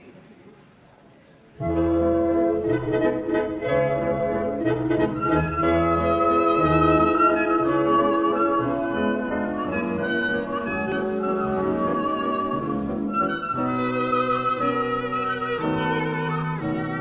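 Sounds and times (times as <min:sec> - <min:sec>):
orchestral music: 0:01.7 - 0:17.0.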